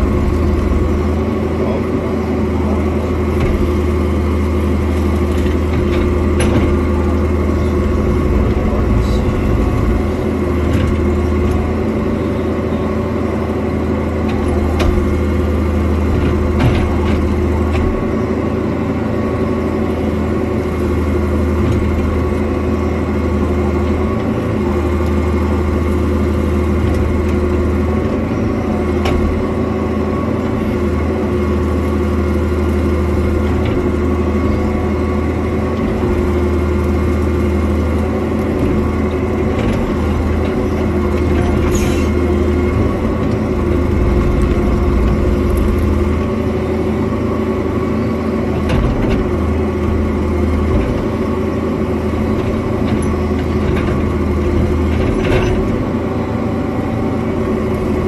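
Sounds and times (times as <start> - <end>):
diesel engine running: 0.0 - 58.0
mulcher shredding brush: 0.0 - 58.0.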